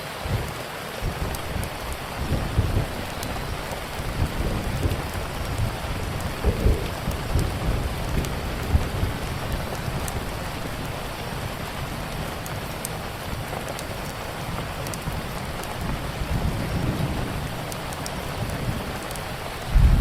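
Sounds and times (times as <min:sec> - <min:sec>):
heavy rain: 0:00.0 - 0:20.0
thunder rumbling: 0:00.2 - 0:20.0
wood fire crackling: 0:00.2 - 0:20.0.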